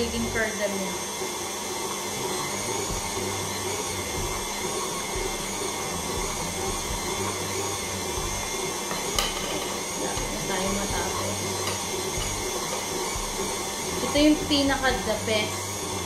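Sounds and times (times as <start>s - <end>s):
stand mixer whisking: 0.0s - 16.0s.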